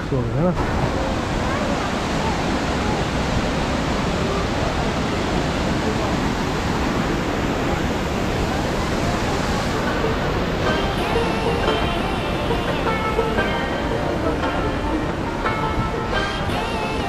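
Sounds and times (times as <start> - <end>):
faint voices of people: 0.0 - 17.0
stream rushing over rocks: 0.0 - 17.0.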